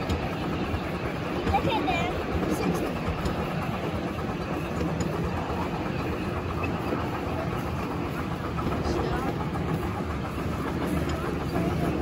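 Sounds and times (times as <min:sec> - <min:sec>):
miniature train wheels on rails: 0:00.0 - 0:12.0.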